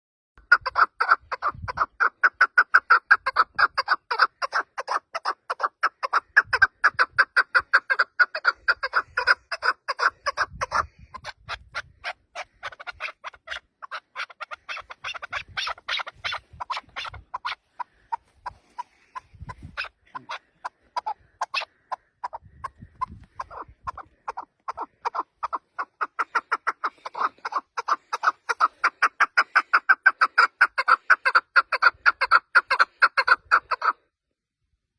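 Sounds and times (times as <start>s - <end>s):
partridge clucking calls: 0.4s - 34.1s.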